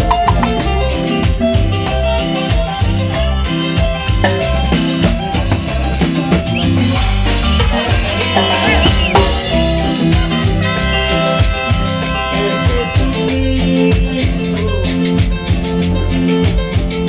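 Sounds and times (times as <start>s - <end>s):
bass line: 0.0s - 17.0s
drum and timbale strokes: 0.0s - 17.0s
live salsa band playing: 0.0s - 17.0s
sliding melodic notes: 0.0s - 17.0s.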